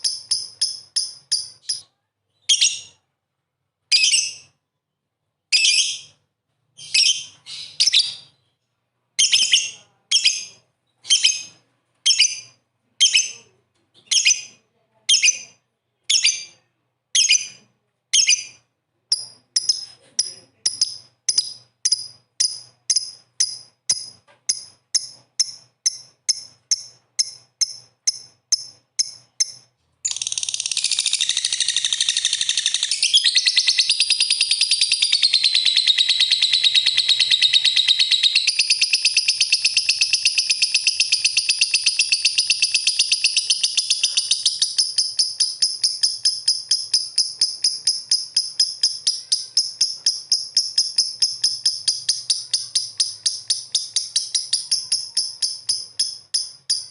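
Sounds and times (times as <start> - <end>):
lovebird chirping and trilling: 0.0 - 3.0, 3.9 - 4.6, 5.5 - 6.2, 6.8 - 8.6, 9.2 - 56.9.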